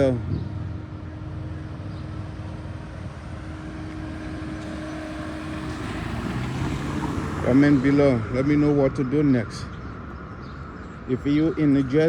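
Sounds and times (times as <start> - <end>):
distant engine noise: 0.0 - 12.0.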